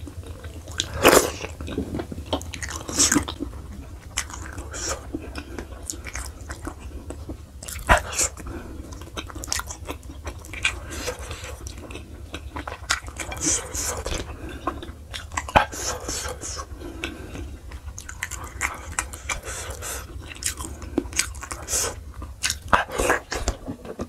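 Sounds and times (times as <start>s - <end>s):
person chewing with mouth clicks: 0.0s - 24.0s.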